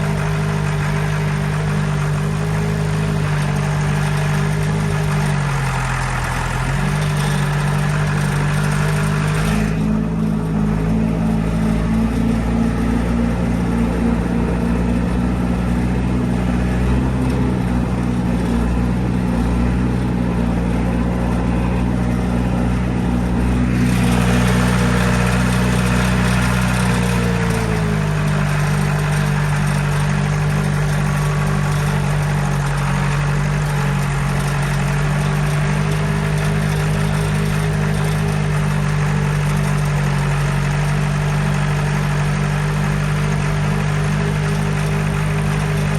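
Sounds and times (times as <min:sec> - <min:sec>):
combine engine drone: 0:00.0 - 0:45.9.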